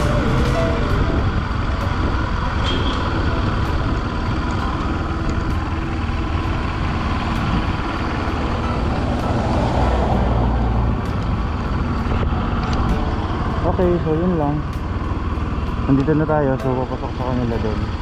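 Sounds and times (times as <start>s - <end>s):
low engine hum: 0.0s - 18.0s
road noise from moving vehicle: 0.0s - 18.0s.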